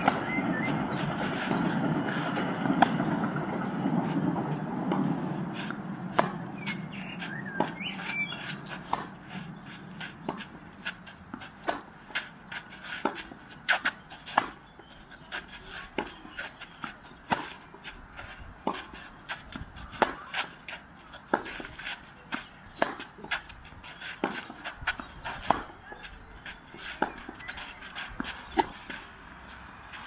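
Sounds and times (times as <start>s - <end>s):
ball bouncing on clay court: 0.0s - 29.0s
tennis ball hitting racket: 0.0s - 29.2s.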